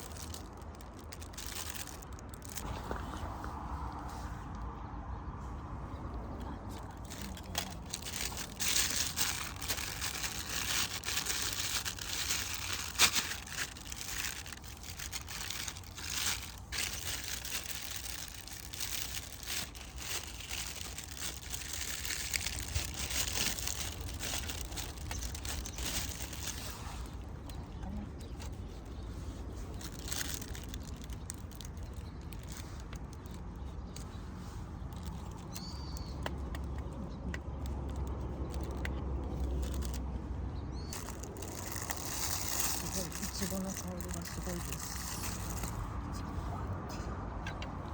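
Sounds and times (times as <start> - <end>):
crinkling and rustling: 0.0 - 4.6, 6.3 - 40.2, 40.9 - 46.5.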